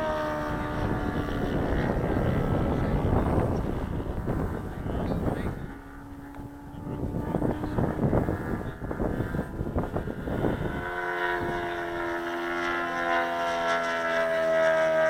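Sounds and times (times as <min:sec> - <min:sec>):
model airplane engine running: 0:00.0 - 0:15.0
wind on microphone: 0:00.0 - 0:15.0.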